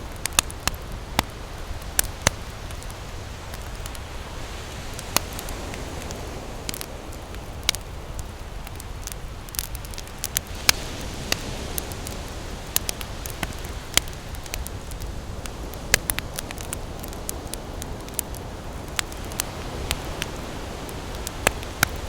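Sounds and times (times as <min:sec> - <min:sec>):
campfire crackling and popping: 0:00.0 - 0:22.0
ocean surf: 0:00.0 - 0:22.0.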